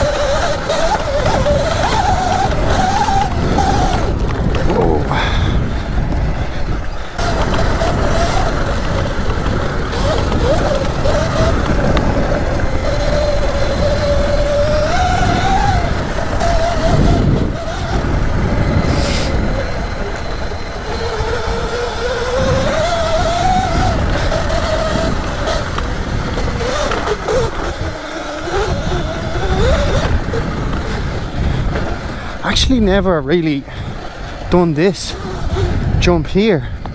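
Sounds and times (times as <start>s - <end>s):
electric dirt bike motor whining: 0.0s - 36.9s.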